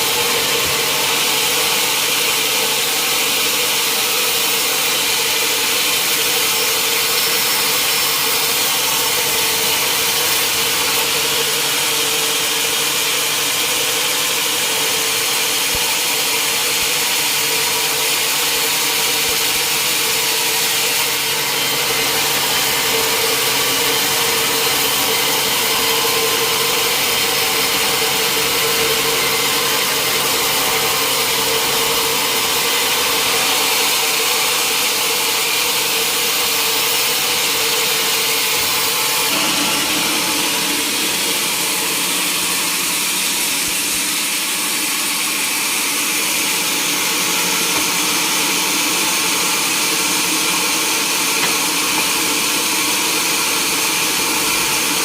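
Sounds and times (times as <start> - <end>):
engine-driven saw cutting timber: 0.0 - 55.0.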